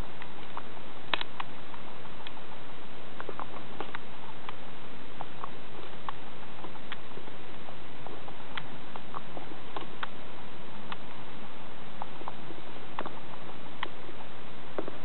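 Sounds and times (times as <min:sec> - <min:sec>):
guinea pig drinking from sipper tube: 0:00.0 - 0:15.0.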